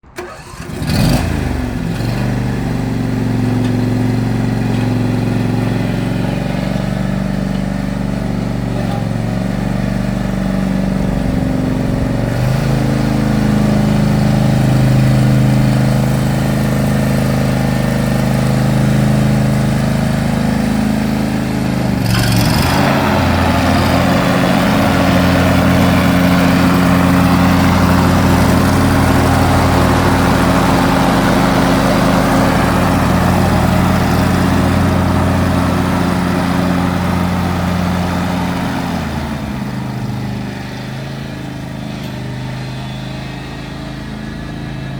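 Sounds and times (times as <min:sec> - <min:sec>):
lawn tractor engine running: 0:00.0 - 0:44.9.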